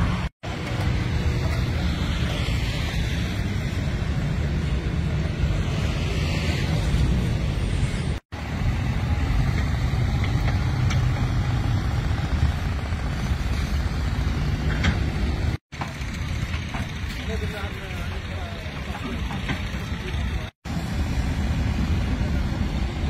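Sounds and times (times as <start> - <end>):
construction site rumble: 0.0 - 23.0.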